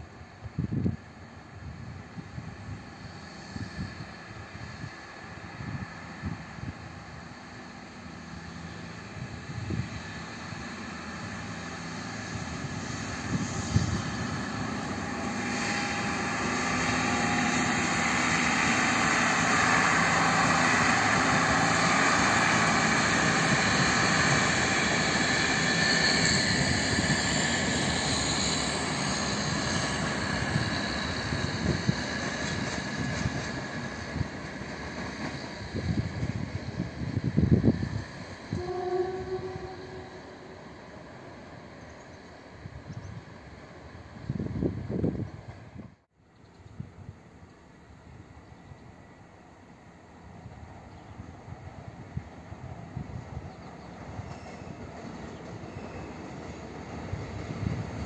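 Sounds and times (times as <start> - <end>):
train engine droning: 0.0 - 45.9, 46.6 - 58.0
train wheels rumbling on rails: 0.0 - 58.0.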